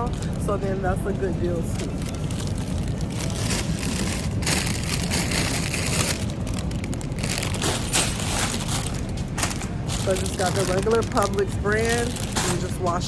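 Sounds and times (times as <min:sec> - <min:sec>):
steady low rumble: 0:00.0 - 0:13.0
plastic bag crinkling: 0:01.7 - 0:13.0.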